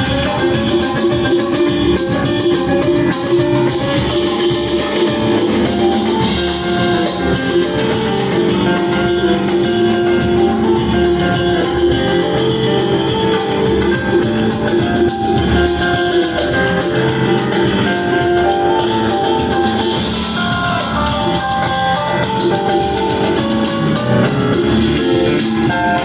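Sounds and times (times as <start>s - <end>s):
drum kit beat: 0.0s - 26.0s
live band playing: 0.0s - 26.0s.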